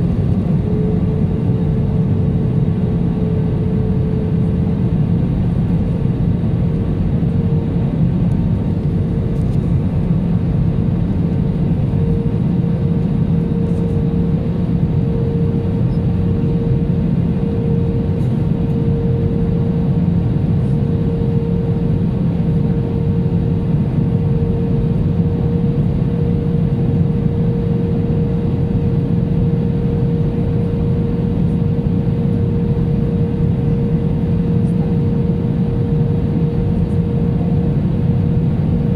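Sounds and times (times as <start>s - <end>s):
aircraft engines rumbling: 0.0s - 38.9s
steady hum: 0.0s - 38.9s.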